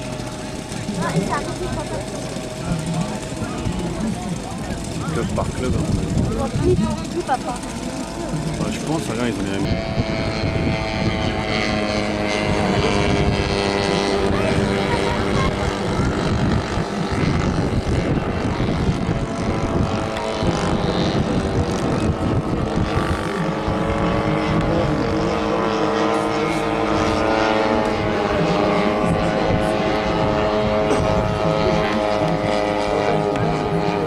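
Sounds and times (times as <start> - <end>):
biplane engine droning overhead: 0.0 - 34.0.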